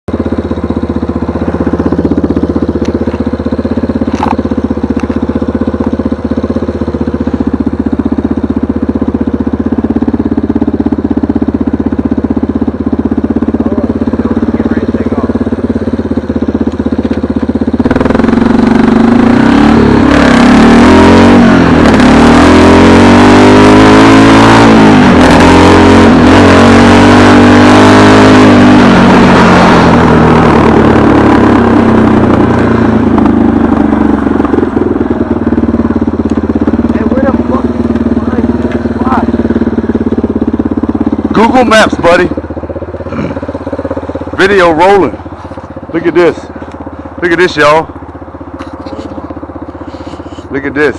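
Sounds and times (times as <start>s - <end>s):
vehicle engine revving: 0.1s - 50.9s.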